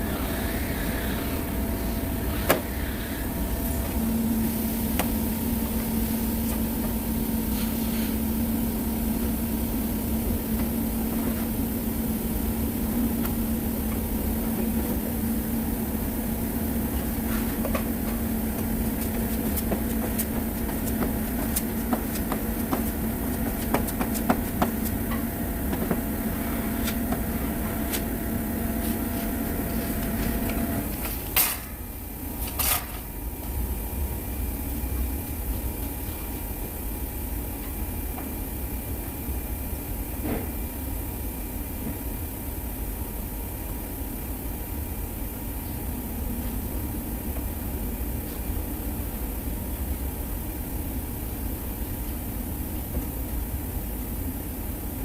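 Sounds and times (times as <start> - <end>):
machine low hum: 0.0 - 55.0.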